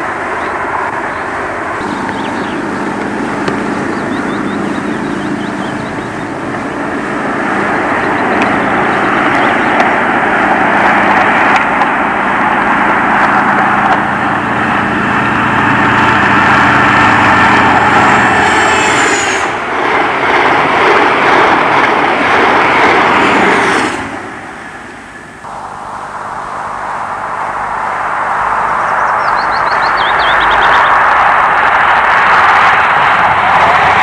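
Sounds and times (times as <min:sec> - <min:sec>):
diesel engine whine: 0:00.0 - 0:34.0
train coaches rushing past: 0:00.0 - 0:34.0.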